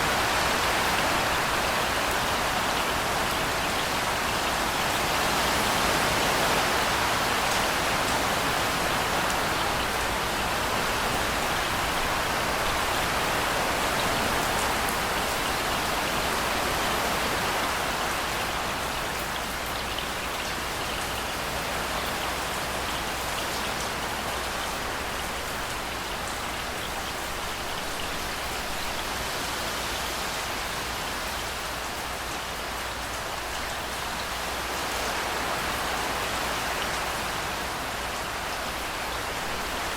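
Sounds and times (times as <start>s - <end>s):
rain falling on hard surfaces: 0.0s - 39.9s.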